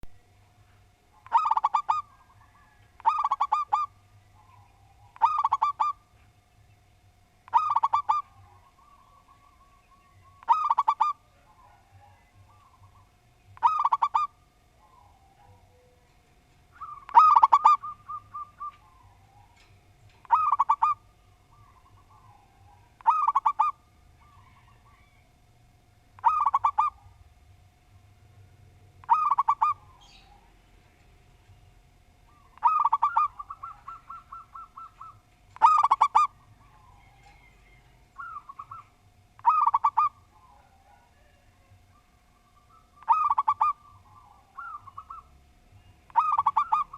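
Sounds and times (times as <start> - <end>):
dove cooing: 0.0 - 6.2, 7.4 - 25.3, 26.2 - 27.3, 29.0 - 30.7, 32.2 - 46.9.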